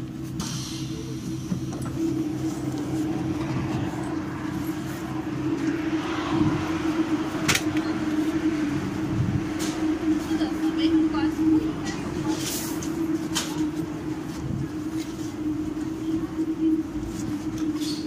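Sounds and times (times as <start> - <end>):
machine hum with low drone: 0.0 - 18.0.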